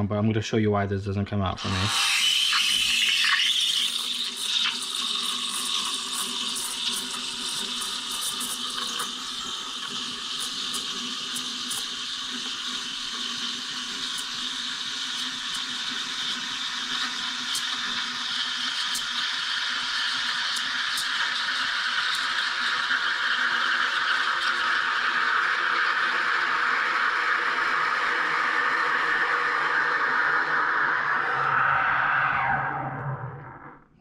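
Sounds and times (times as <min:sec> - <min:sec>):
steam wand hissing in milk: 0:01.6 - 0:31.6.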